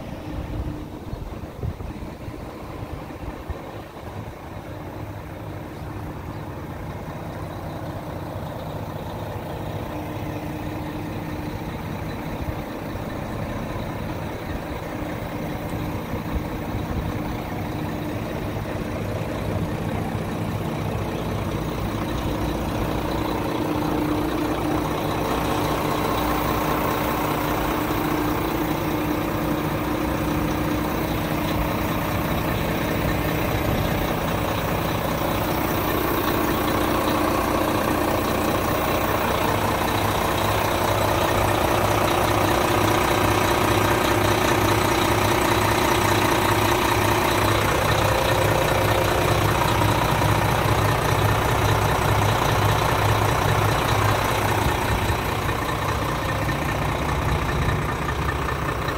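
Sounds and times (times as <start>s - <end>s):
diesel truck idling: 0.0s - 58.9s.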